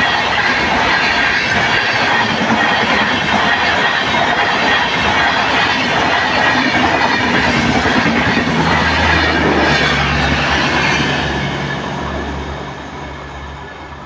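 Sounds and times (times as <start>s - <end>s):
train rushing past: 0.0s - 14.0s.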